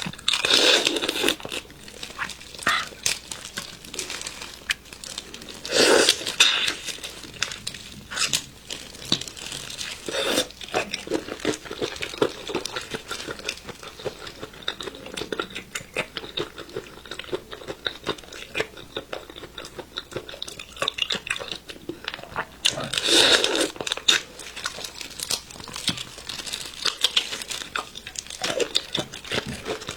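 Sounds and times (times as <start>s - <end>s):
crunching: 0.0s - 29.9s
prawn shells crackling and tearing: 0.0s - 29.9s.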